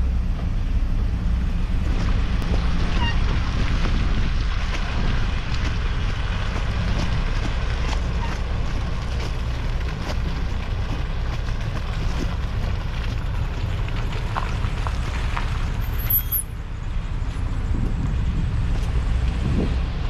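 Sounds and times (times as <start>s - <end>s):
truck engine idling: 0.0s - 19.3s
wind buffeting microphone: 1.5s - 15.0s, 17.1s - 20.0s.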